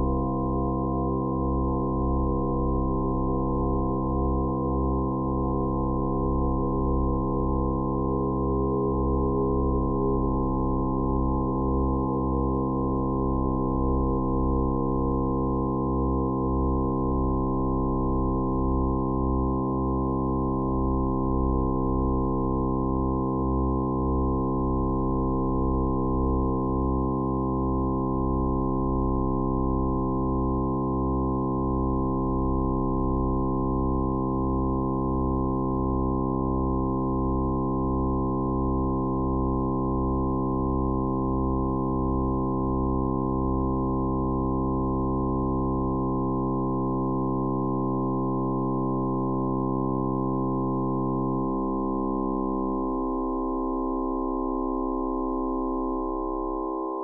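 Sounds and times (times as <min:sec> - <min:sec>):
synthesised sine tone chord: 0:00.0 - 0:57.0.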